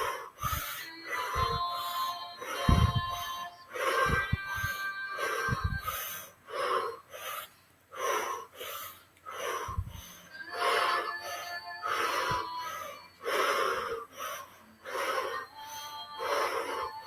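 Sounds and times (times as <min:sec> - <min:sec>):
faint background music: 0:00.0 - 0:17.0
forceful rhythmic breathing: 0:00.0 - 0:17.0.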